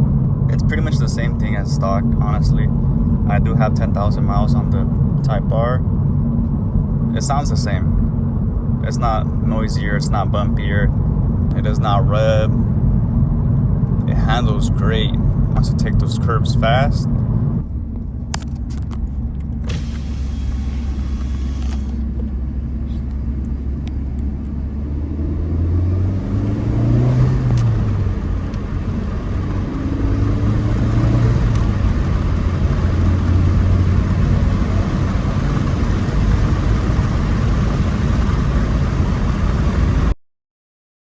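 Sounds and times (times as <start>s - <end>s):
car engine hum: 0.0s - 40.1s
tyre and road rumble: 0.0s - 40.1s.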